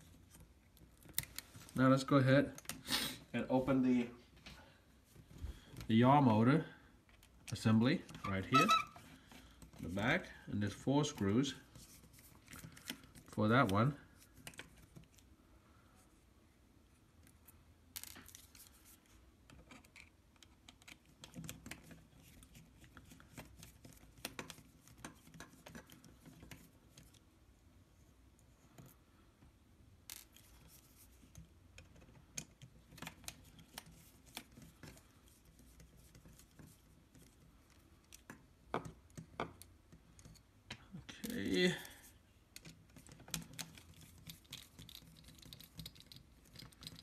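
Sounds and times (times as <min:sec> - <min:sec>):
faint clicks and scratches of plastic: 0:00.0 - 0:02.8, 0:07.0 - 0:15.4, 0:16.8 - 0:47.0.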